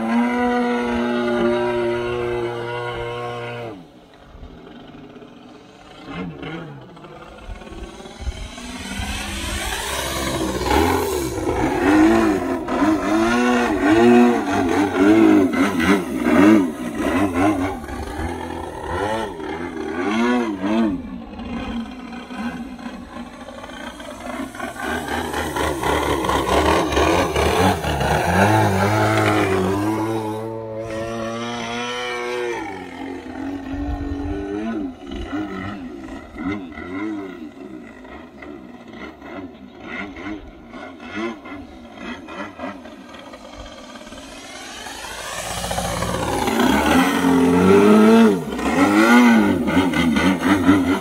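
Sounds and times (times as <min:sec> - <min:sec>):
model plane engine revving: 0:00.0 - 0:51.0.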